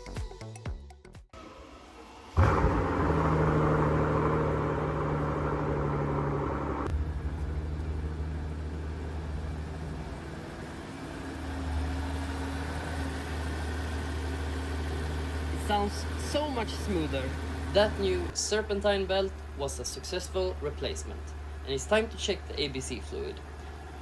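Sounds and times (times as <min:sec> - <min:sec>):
car engine starting and idling: 0:01.4 - 0:24.0.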